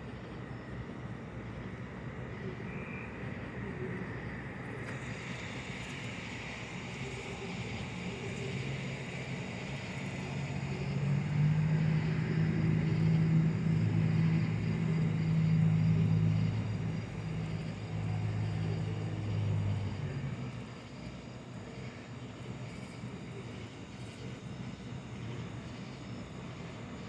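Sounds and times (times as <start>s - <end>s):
low engine-like hum: 0.0s - 27.0s.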